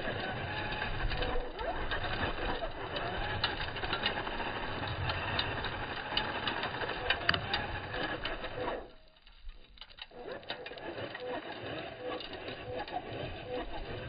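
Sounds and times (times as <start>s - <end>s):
remote control car whirring: 0.0s - 14.0s
tyres spinning in dirt: 0.0s - 14.0s.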